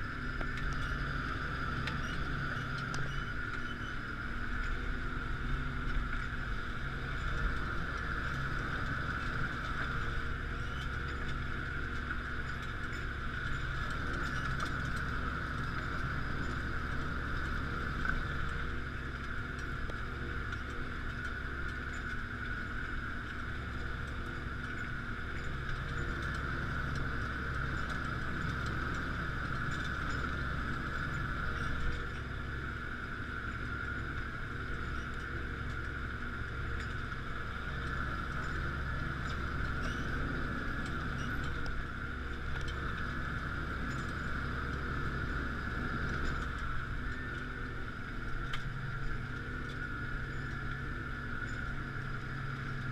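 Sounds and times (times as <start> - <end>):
high whine: 0.0 - 52.9
tractor engine hum: 0.0 - 52.9.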